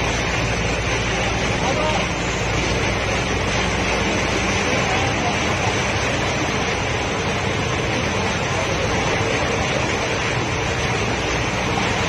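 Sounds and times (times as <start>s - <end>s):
floodwater rushing and sloshing: 0.0s - 12.0s
low engine rumble: 0.0s - 12.0s.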